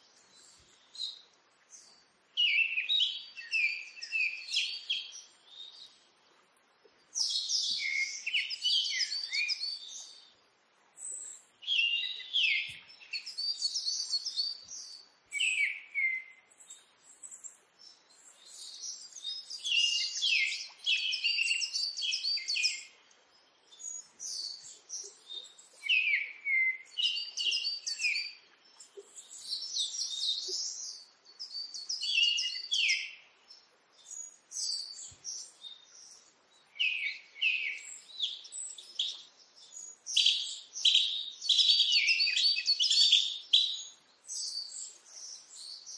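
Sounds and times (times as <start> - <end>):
small songbird chirping: 0.0 - 45.9.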